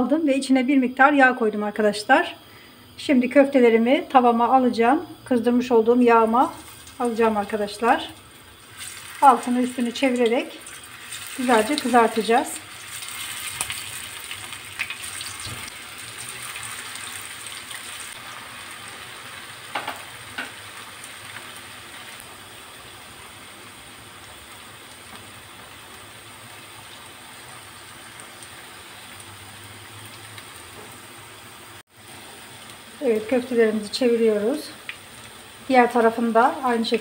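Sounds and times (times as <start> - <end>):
patties sizzling in frying pan: 3.3 - 37.0.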